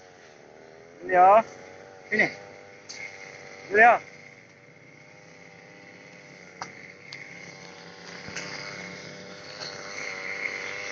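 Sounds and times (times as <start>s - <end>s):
grass trimmer engine droning: 0.0s - 10.9s.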